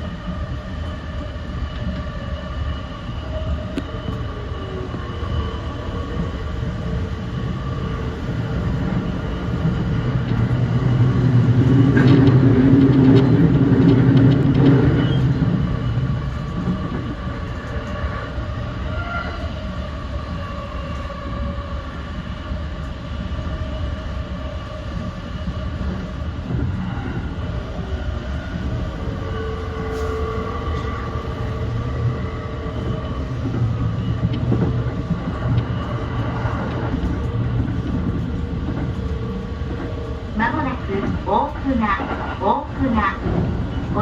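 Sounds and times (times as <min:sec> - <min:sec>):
train rail rumble: 0:00.0 - 0:44.0.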